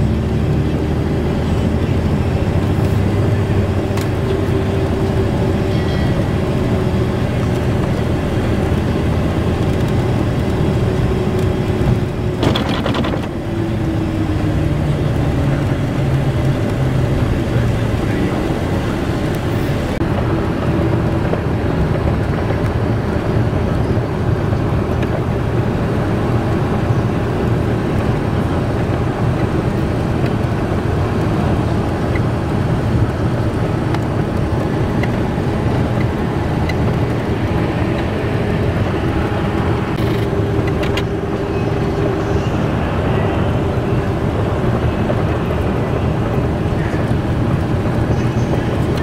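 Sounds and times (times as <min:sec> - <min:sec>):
vehicle road noise from inside: 0:00.0 - 0:49.0.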